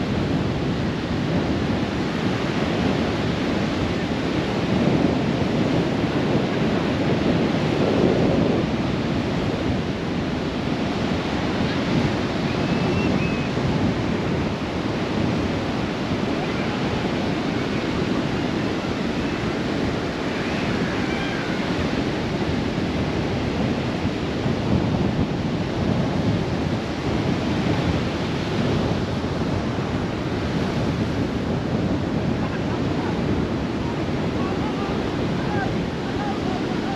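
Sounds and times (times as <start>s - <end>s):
surf breaking on sand beach: 0.0s - 36.9s
wind across microphone: 0.0s - 36.9s.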